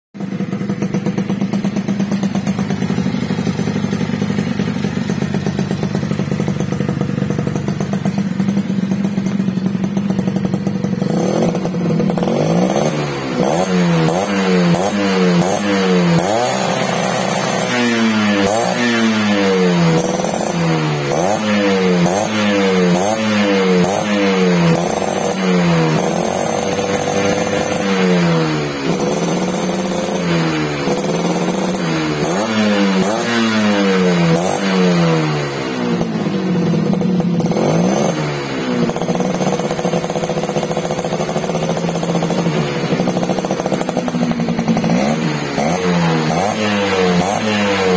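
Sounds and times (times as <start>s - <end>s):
two-stroke engine idling and revving: 0.1s - 47.9s.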